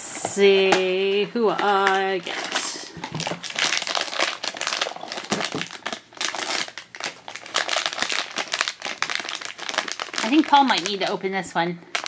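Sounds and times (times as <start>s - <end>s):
foil bag crinkling: 0.6s - 12.0s.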